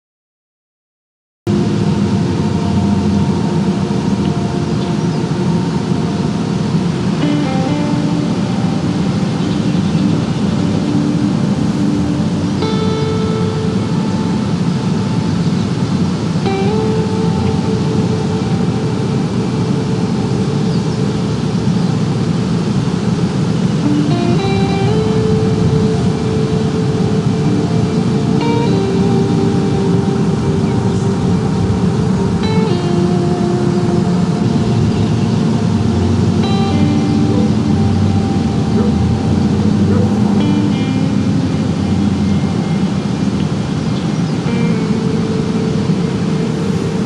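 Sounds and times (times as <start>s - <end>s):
faint steady tones: 1.5s - 47.0s
steady low rumbling: 1.5s - 47.0s.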